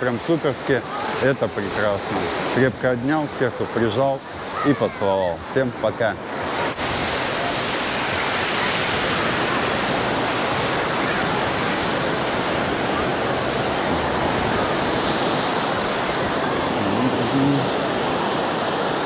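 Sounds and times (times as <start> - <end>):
small waves breaking on shore: 0.0 - 19.0.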